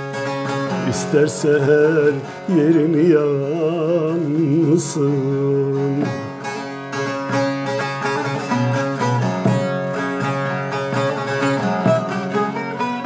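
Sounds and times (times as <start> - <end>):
held strings and bass: 0.0 - 13.0
plucked-string melody: 0.0 - 13.0.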